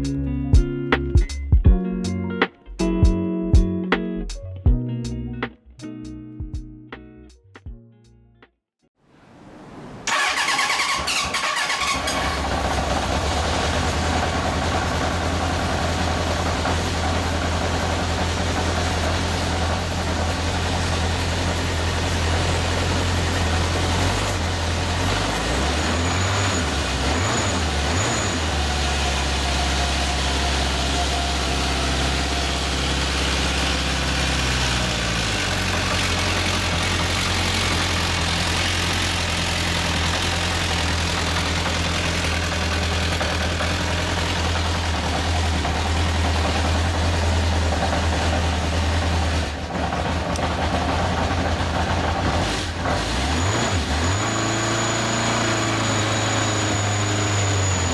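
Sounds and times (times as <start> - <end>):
motorcycle engine starting and idling: 10.1 - 57.9.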